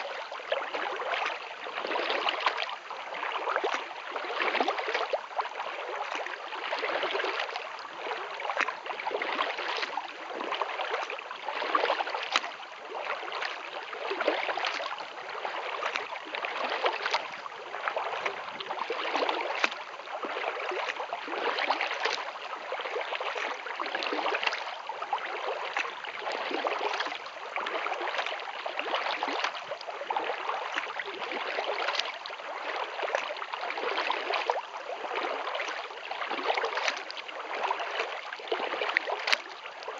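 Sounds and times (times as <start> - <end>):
water splashing around kayak paddle: 0.0 - 39.9.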